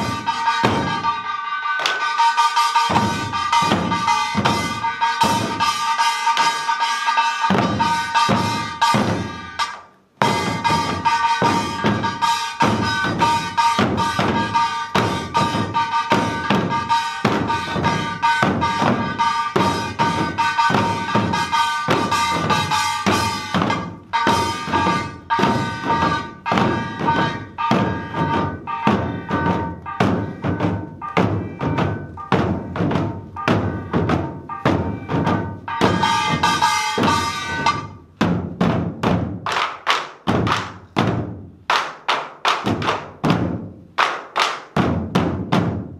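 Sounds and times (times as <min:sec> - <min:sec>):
small metal gong ringing: 0:00.0 - 0:38.0
barrel drums beating: 0:00.0 - 0:45.9.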